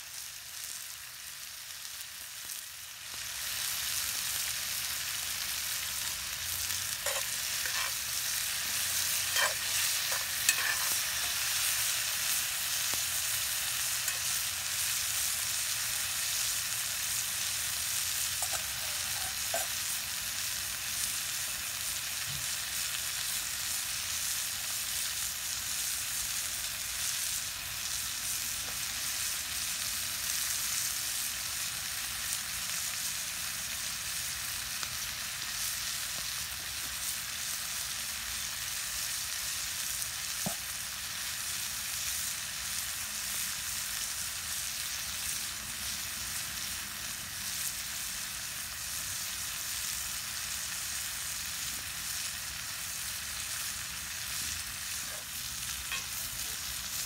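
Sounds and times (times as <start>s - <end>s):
vegetables sizzling in a skillet: 0.0s - 57.0s.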